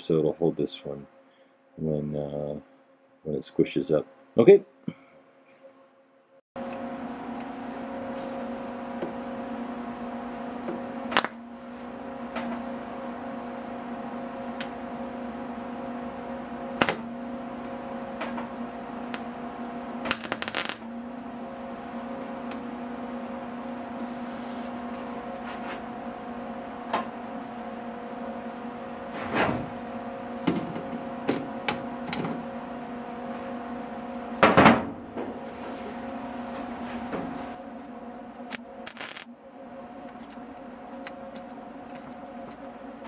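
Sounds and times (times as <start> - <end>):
machine hum: 6.6 - 43.0.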